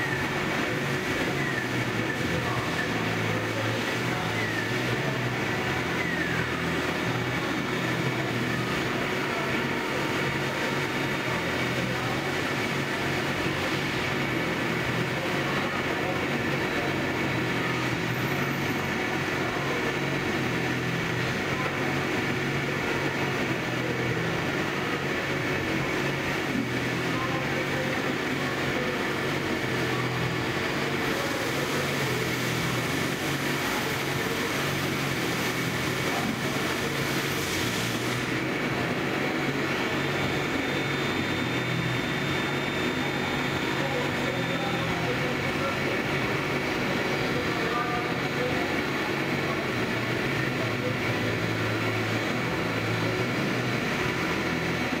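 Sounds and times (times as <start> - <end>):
lathe machine hiss: 0.0 - 55.0.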